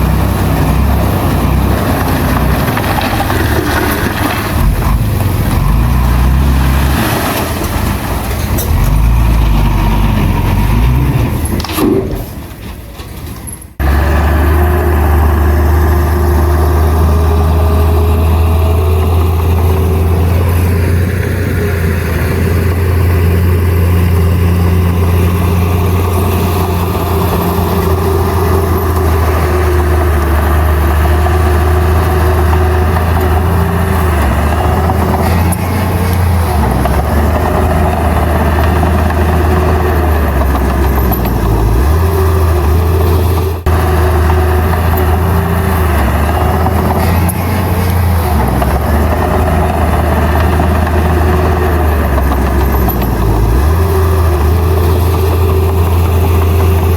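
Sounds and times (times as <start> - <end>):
heavy diesel engine droning: 0.0 - 56.9.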